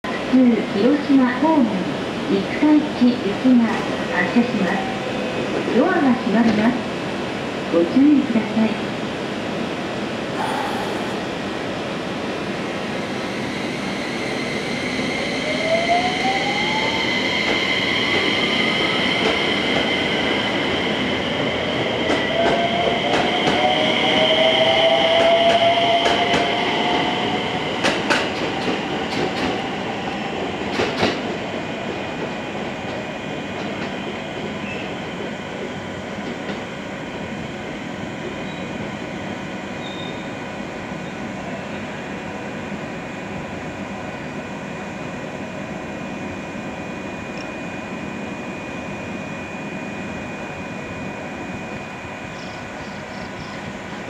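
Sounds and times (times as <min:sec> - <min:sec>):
train running noise: 0:00.1 - 0:54.0.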